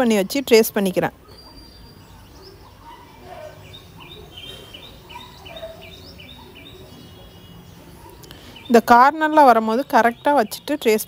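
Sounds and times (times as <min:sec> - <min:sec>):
low background noise: 0:00.0 - 0:11.0
small bird chirping: 0:00.5 - 0:11.0.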